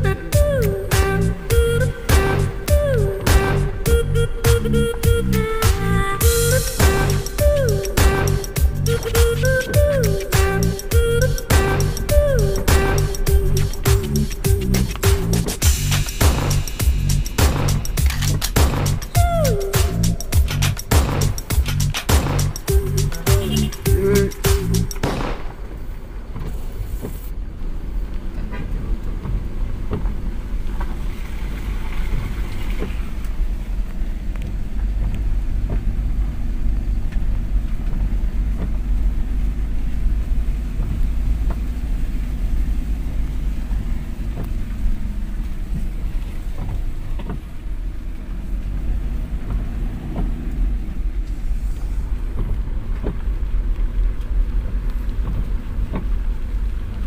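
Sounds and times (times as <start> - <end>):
vehicle driving rumble: 0.0 - 57.0.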